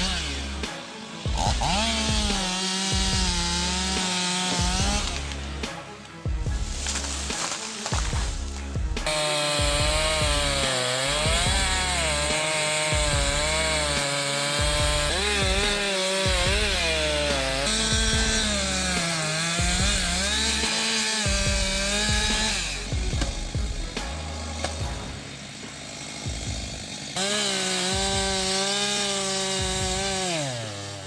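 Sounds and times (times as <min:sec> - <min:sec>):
chainsaw cutting wood: 0:00.0 - 0:31.0
wood cracking: 0:00.0 - 0:31.0.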